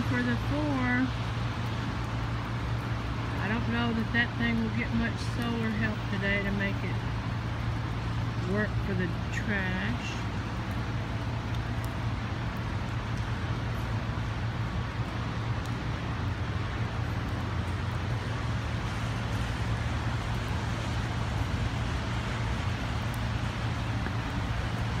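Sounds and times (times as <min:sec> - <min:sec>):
constant low hum: 0:00.0 - 0:25.0
rain on street: 0:00.0 - 0:25.0
traffic on wet road: 0:00.0 - 0:25.0.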